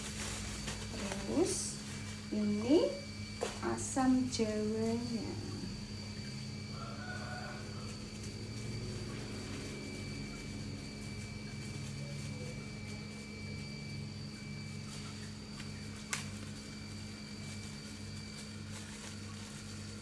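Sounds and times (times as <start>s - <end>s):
low background hum: 0.0s - 20.0s
thin high-pitched whine: 0.0s - 20.0s.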